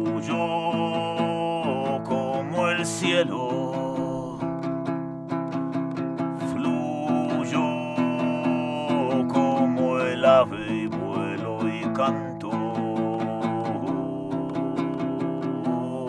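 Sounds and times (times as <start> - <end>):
strummed lute with drone: 0.0 - 16.0.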